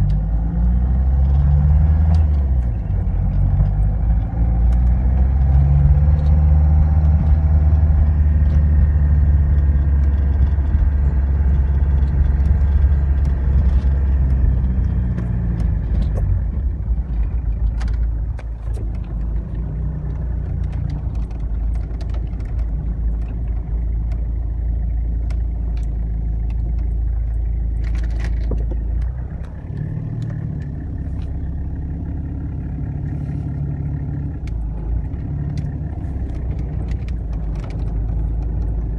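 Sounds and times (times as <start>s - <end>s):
diesel engine running: 0.0s - 38.9s
light clicks and rattles: 1.2s - 38.9s.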